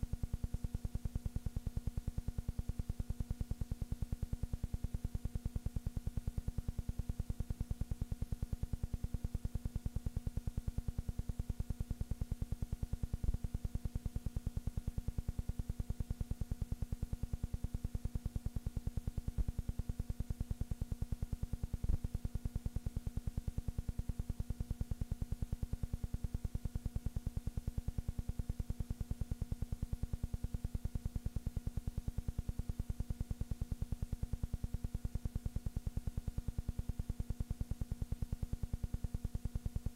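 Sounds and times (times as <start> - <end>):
low electrical hum with pulsing beat: 0.0 - 39.9.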